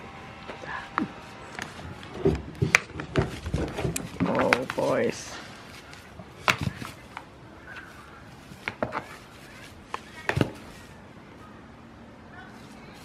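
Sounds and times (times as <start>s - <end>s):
goat horns clashing: 0.3s - 10.8s.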